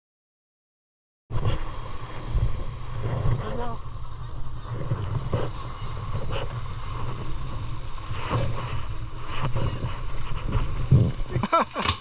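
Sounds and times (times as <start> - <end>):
motor boat engine rumble: 1.3 - 12.0
wind buffeting microphone: 1.3 - 12.0.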